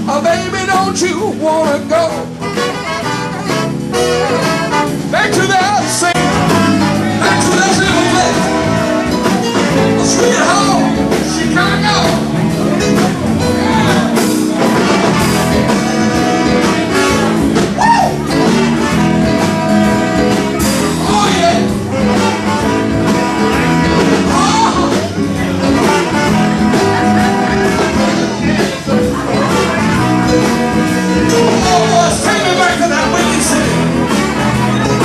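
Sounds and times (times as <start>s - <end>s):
blues band playing: 0.0s - 35.0s.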